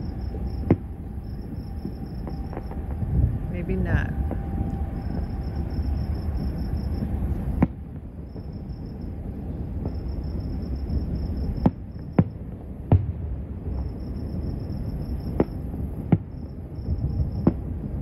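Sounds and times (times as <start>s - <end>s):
crickets chirping: 0.0s - 18.0s
distant fireworks rumble: 0.0s - 18.0s
fireworks bangs: 0.0s - 18.0s.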